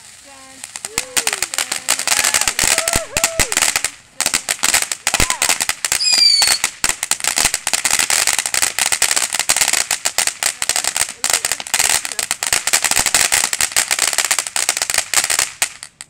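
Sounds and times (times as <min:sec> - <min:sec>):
firework crackling and hissing: 0:00.0 - 0:16.0.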